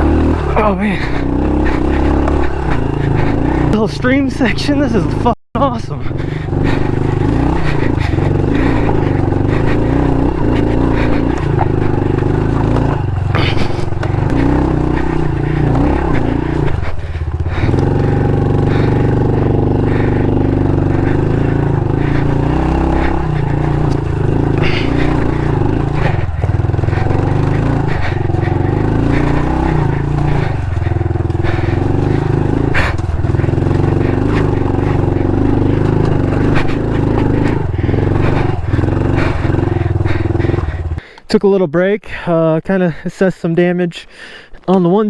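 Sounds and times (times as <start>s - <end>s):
motorbike engine running: 0.0s - 41.1s.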